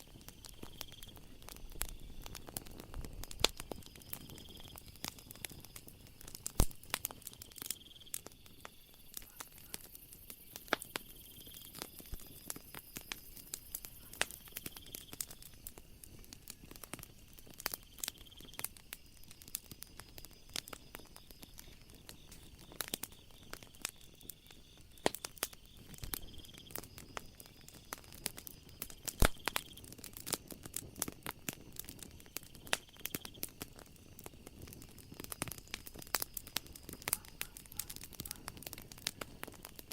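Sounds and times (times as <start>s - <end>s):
night insects trilling: 0.0s - 39.9s
wood fire crackling and popping: 0.0s - 39.9s.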